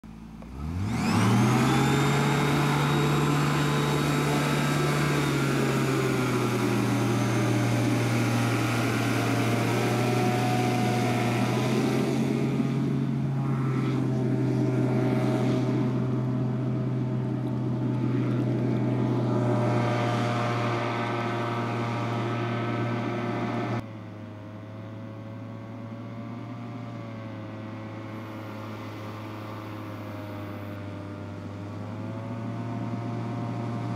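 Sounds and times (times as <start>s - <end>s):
hovercraft engine and fan: 0.0s - 33.9s.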